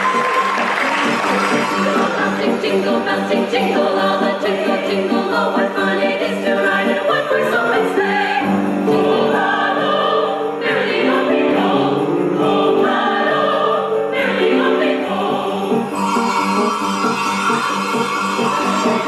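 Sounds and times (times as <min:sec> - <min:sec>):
choir singing a carol: 0:00.8 - 0:19.0.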